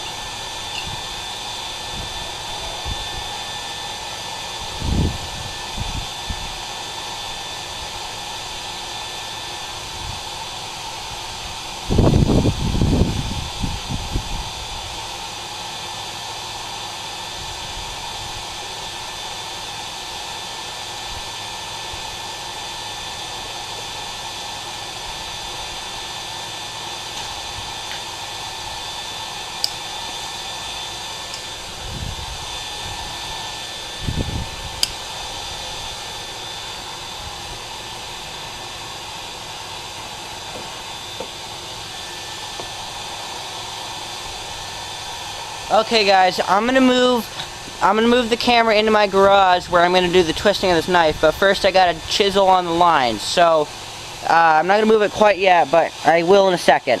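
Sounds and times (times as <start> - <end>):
faint high whine: 0.0 - 57.0
forge blowing hiss: 0.0 - 57.0.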